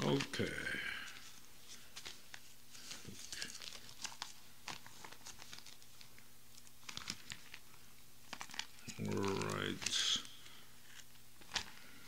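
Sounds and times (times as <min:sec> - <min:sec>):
thin pages rustling: 0:01.0 - 0:12.0.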